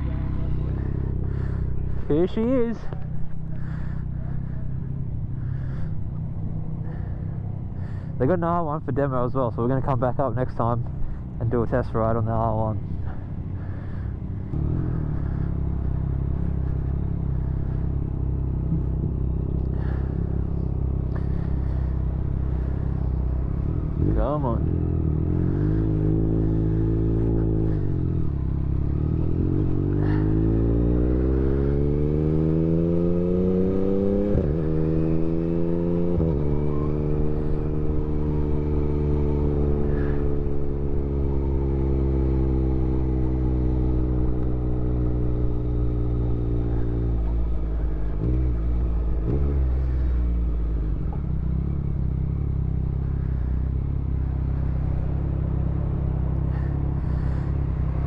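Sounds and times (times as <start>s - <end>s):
motorcycle engine: 0.0s - 58.0s.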